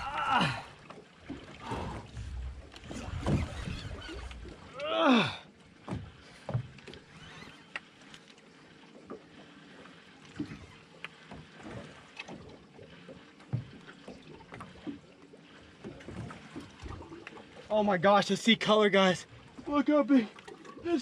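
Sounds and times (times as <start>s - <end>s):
knocks and splashes: 0.0s - 21.0s
water lapping against boat hull: 0.0s - 21.0s.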